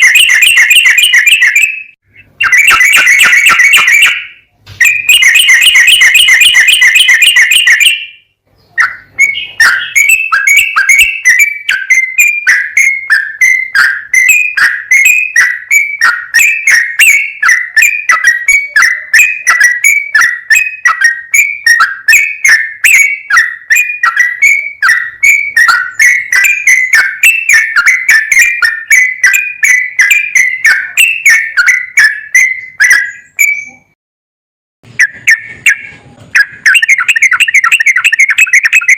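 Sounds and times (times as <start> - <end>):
bird singing trills and chirps: 0.0 - 34.0, 34.9 - 38.9.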